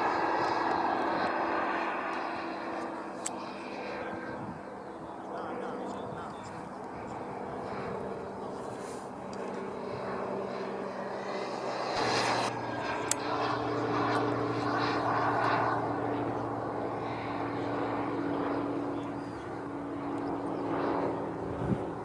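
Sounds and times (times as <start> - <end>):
model jet engine running: 0.0 - 22.0.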